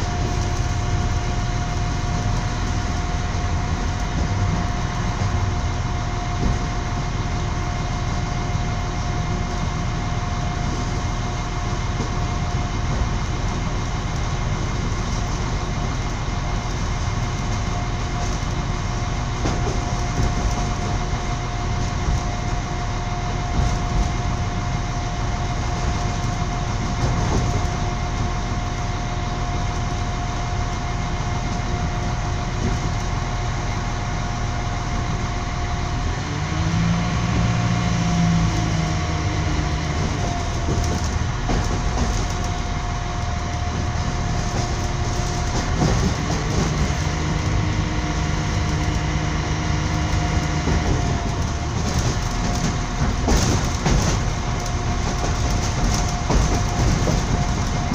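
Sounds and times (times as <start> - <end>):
constant high whine: 0.0 - 57.9
deeper hum: 0.0 - 57.9
train wheels rumbling on rails: 0.0 - 57.9.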